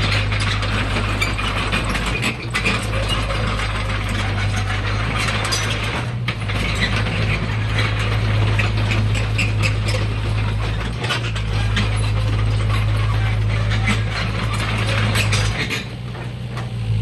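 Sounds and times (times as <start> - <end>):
excavator engine hum: 0.0 - 17.0.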